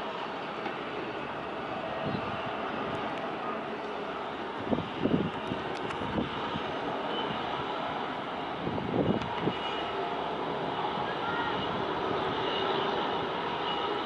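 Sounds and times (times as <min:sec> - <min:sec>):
distant helicopters droning: 0:00.0 - 0:14.0.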